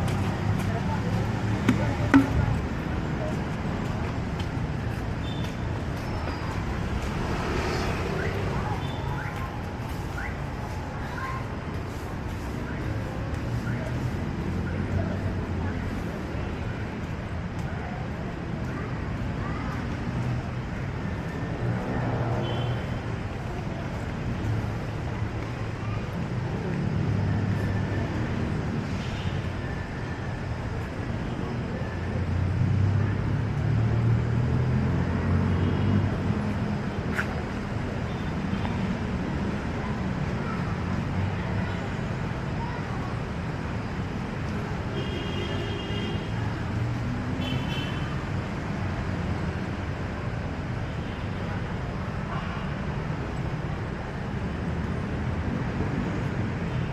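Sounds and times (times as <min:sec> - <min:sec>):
vehicle engines passing: 0:00.0 - 0:45.0, 0:46.1 - 0:56.9
faint voices of passers-by: 0:00.0 - 0:56.9
steady urban hum: 0:00.0 - 0:56.9
street traffic rumble: 0:00.0 - 0:56.9.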